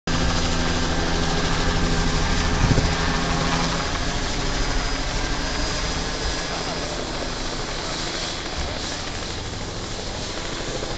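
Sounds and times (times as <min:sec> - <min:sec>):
helicopter engine drone: 0:00.1 - 0:10.9
helicopter rotor beating: 0:00.1 - 0:10.9.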